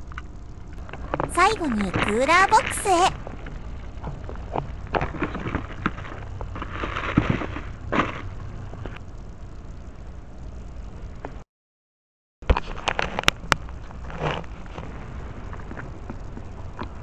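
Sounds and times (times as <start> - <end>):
low outdoor rumble: 0.0 - 11.4, 12.5 - 17.0.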